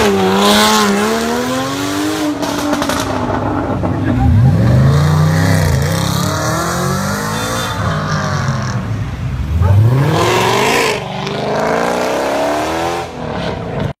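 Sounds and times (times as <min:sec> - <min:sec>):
sports car engines revving: 0:00.0 - 0:14.0.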